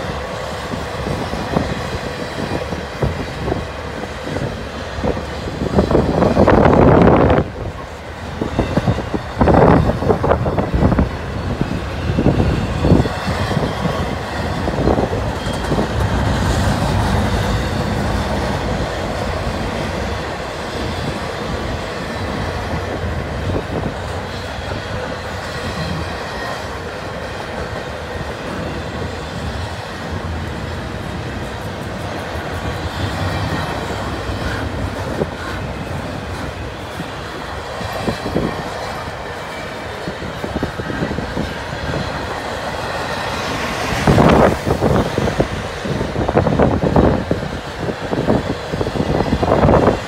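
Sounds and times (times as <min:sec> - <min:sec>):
loud train knocks: 0:00.0 - 0:50.0
train wheels rolling on rails: 0:00.0 - 0:50.0.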